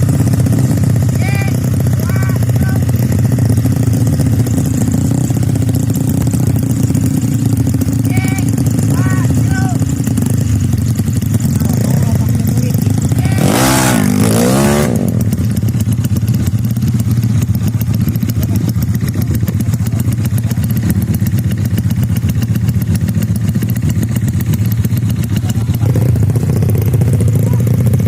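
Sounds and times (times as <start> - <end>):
scooter engine revving and idling: 0.0 - 28.0.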